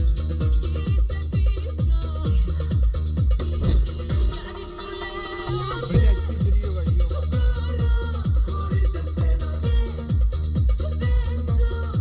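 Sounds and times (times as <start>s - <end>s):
kick drum beat: 0.0s - 4.6s, 5.8s - 12.0s
bass line: 0.0s - 12.0s
electronic dance music: 0.0s - 12.0s.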